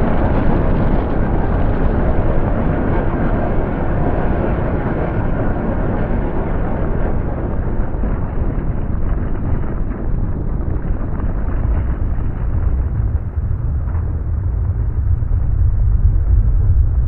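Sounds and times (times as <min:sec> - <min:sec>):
dense continuous rumble: 0:00.0 - 0:17.0.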